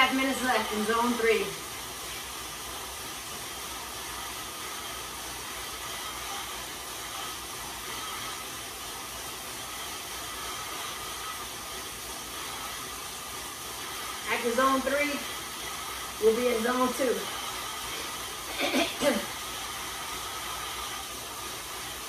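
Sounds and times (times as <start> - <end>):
bike tyres whirring on rollers: 0.0 - 22.0.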